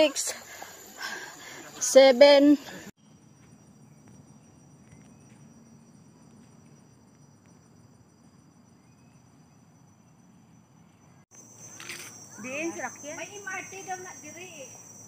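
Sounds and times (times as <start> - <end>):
high-pitched insect calls: 0.0 - 15.0
pulsing insect call: 0.0 - 15.0.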